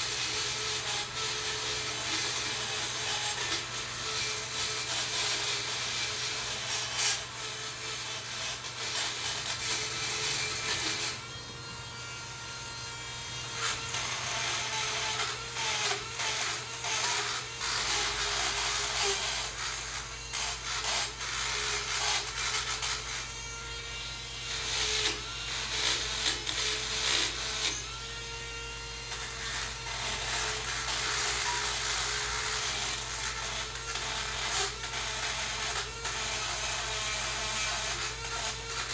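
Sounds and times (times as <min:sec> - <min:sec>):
rotary tool scraping metal: 0:00.0 - 0:38.9.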